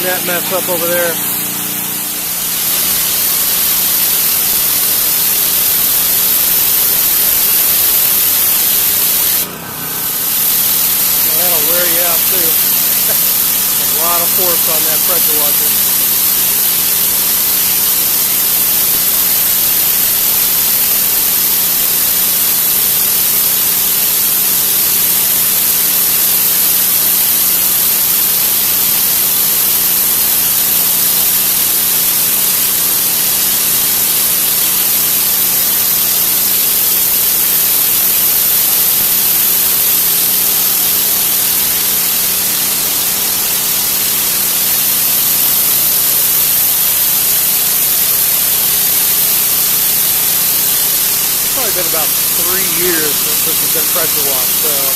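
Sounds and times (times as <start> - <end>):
pressure washer spraying: 0.0 - 54.9.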